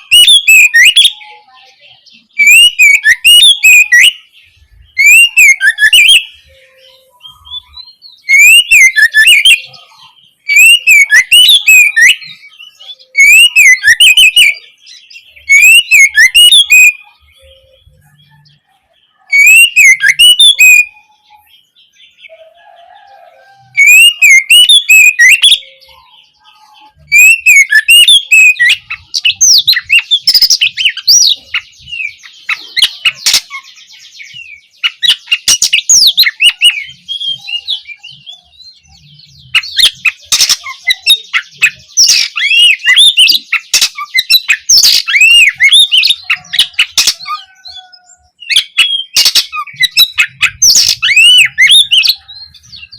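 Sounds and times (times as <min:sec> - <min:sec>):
songbird singing whistles and trills: 0:00.0 - 0:52.9.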